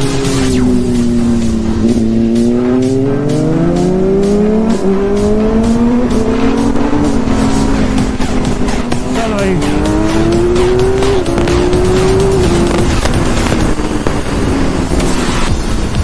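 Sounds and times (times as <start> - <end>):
motorcycle engine revving: 0.0 - 16.0
music with steady beat: 0.0 - 16.0.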